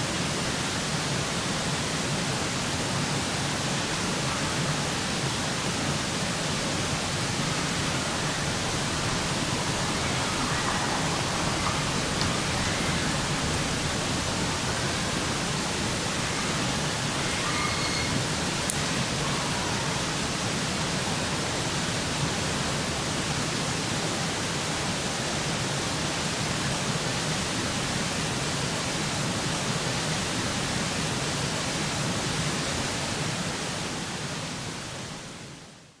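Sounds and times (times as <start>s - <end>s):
steady rushing noise: 0.0s - 34.7s.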